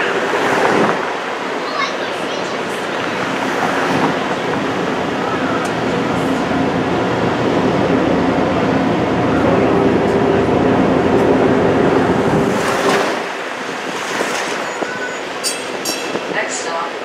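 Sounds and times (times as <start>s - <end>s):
streetcar wheels rumbling on rail: 0.0s - 17.0s.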